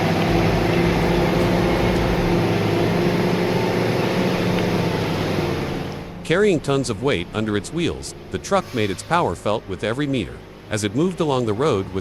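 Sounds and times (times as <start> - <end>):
heavy truck engine running: 0.0 - 12.0.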